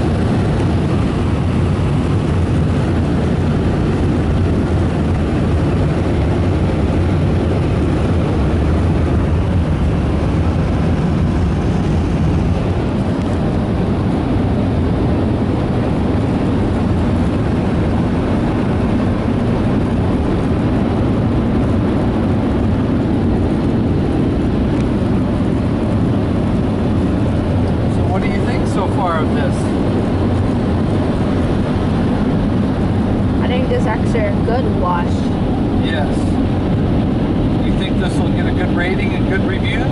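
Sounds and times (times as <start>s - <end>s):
car wash air blowers rushing: 0.0s - 19.2s, 20.4s - 39.9s.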